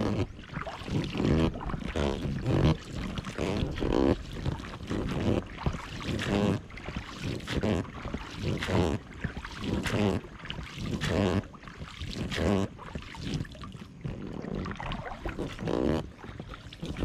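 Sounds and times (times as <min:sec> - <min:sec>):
oar strokes: 0:00.0 - 0:17.0
water sounds: 0:00.0 - 0:17.0.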